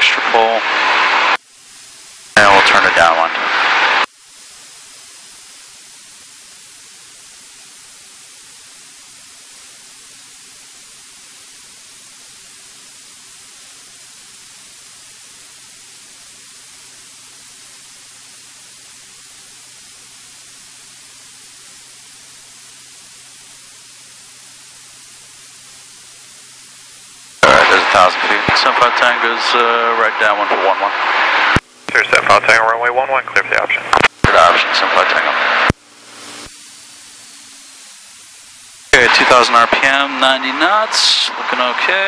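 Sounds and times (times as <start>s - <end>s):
cockpit audio hiss: 0.0s - 42.0s.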